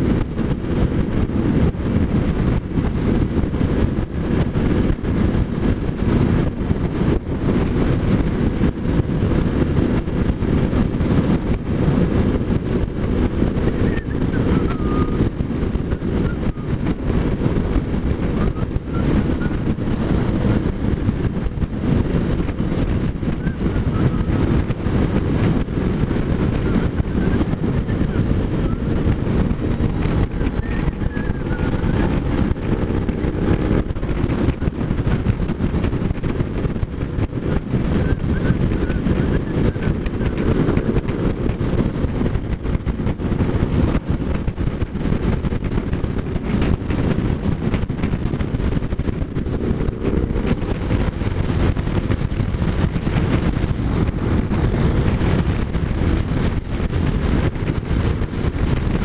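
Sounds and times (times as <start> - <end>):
motorcycle engine drone: 0.0 - 59.0
wind buffeting microphone: 0.0 - 59.0.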